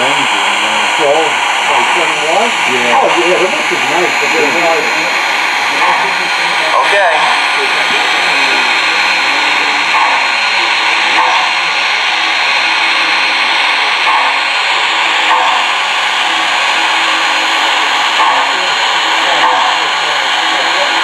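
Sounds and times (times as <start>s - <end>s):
soft locomotive chuffs: 0.0s - 21.0s
steam hiss: 0.0s - 21.0s.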